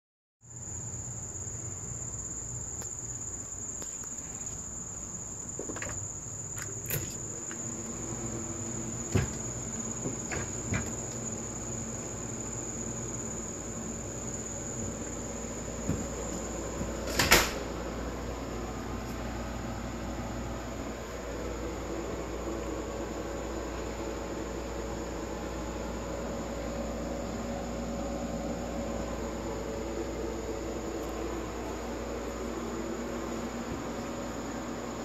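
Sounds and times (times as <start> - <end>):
high-pitched insect trill: 0.4 - 35.0.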